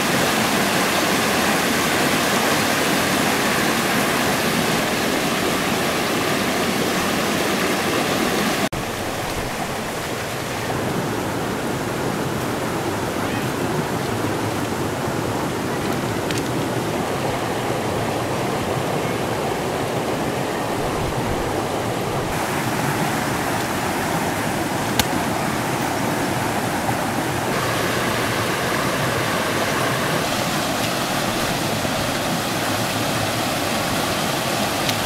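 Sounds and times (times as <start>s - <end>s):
river rapids rushing: 0.0s - 35.0s.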